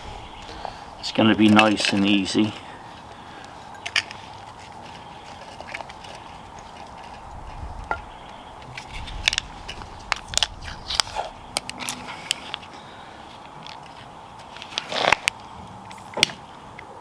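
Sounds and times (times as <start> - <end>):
food crunching: 0.0 - 15.5.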